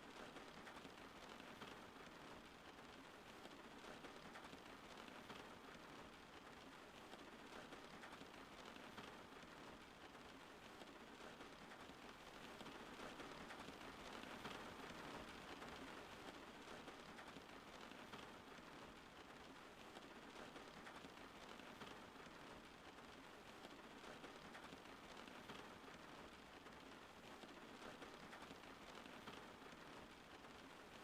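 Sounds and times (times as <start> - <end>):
soft steady rain: 0.0 - 31.0.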